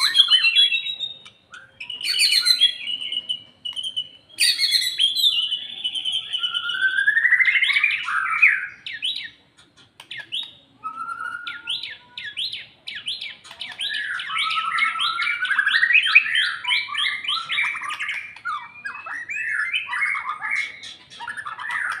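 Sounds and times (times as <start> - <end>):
bird singing whistled phrases: 0.0 - 9.4, 10.0 - 22.0.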